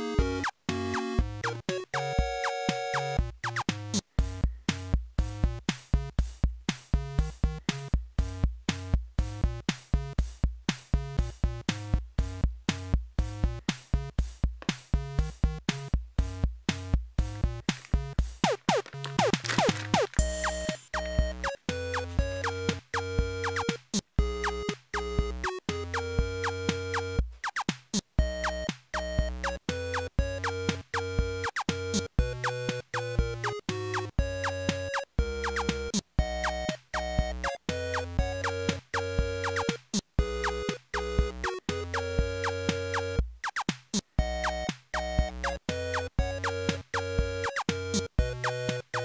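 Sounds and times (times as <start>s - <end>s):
background music with steady beat: 0.0s - 49.0s.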